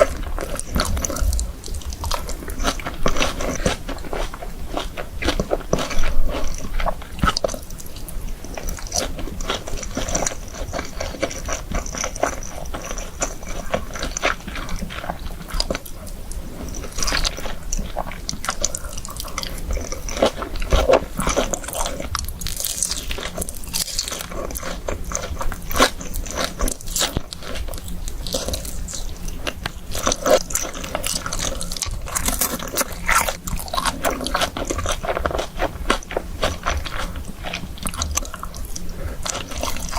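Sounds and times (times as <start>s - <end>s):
chewing crispy fried chicken: 0.0s - 39.9s.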